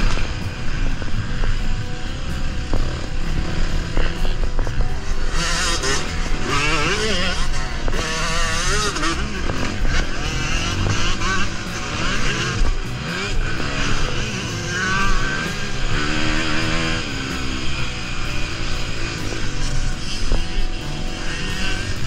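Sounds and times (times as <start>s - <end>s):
motocross bike engine revving: 0.0s - 22.0s.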